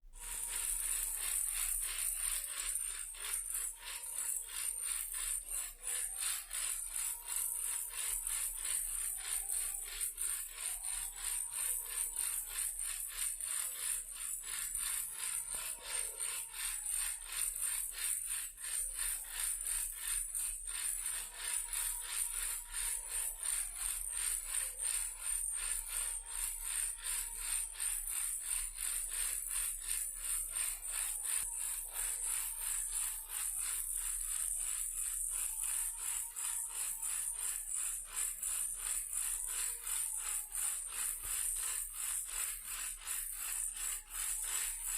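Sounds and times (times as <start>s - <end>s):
toy car rattling: 0.2s - 44.9s.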